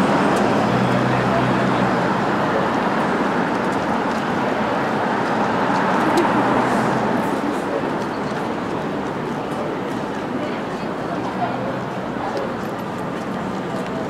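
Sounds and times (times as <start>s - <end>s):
steady traffic noise: 0.0s - 14.0s.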